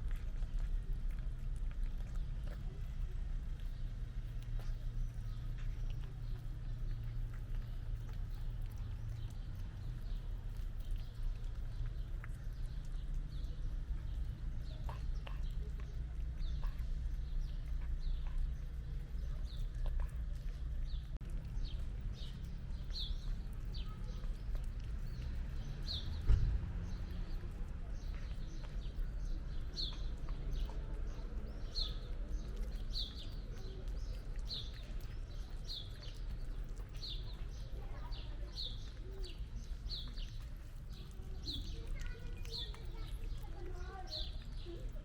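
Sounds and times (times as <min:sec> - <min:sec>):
small bird chirping: 0:01.8 - 0:45.0.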